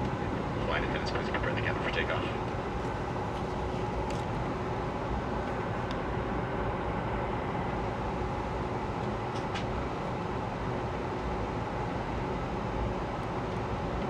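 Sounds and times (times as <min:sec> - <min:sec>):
airplane cabin hum and rumble: 0:00.0 - 0:14.0.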